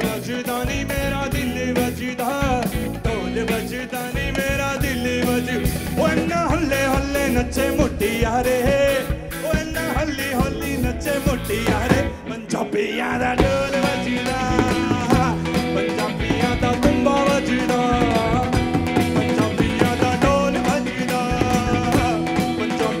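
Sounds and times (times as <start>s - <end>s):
drum kit with cymbals: 0.0s - 12.4s, 13.3s - 23.0s
electric bass: 0.0s - 23.0s
man singing: 0.0s - 23.0s.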